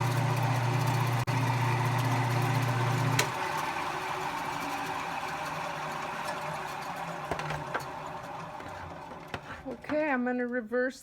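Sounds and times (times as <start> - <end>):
wood lathe motor humming: 0.0 - 9.7.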